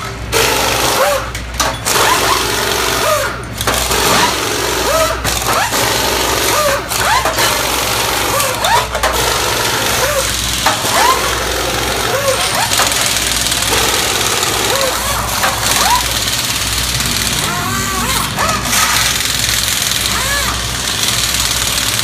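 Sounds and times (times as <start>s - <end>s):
air tools whirring: 0.0s - 22.0s.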